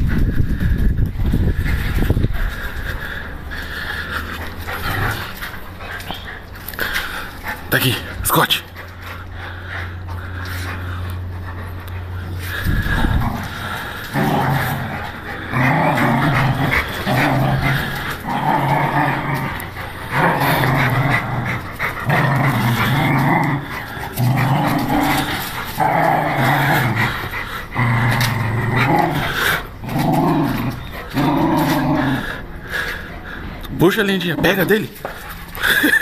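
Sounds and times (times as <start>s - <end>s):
dog play-growling: 0.0s - 36.0s.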